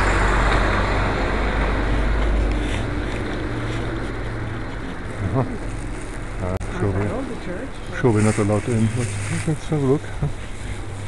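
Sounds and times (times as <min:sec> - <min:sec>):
outdoor noise with deep rumble: 0:00.0 - 0:11.0.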